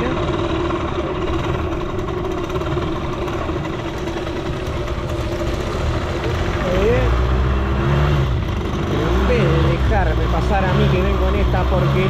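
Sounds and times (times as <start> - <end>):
moped engine running: 0.0 - 12.0.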